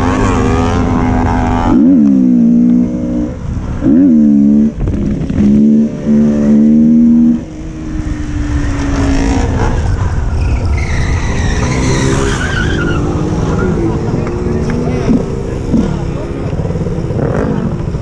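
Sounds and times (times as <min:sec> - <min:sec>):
motorcycle engine revving: 0:00.0 - 0:10.7, 0:11.6 - 0:18.0.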